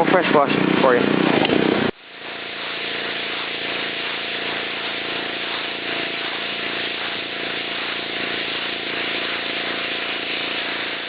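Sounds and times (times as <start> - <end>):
pressure washer engine running: 0.0 - 11.0
water jet hissing on concrete: 0.0 - 11.0.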